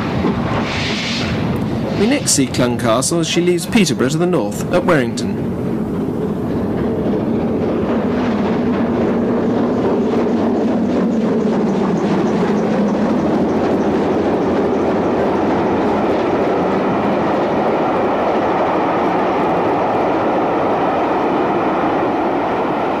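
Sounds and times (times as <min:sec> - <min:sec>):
steam locomotive beats: 0:00.0 - 0:18.4
steam train running noise: 0:00.0 - 0:19.9.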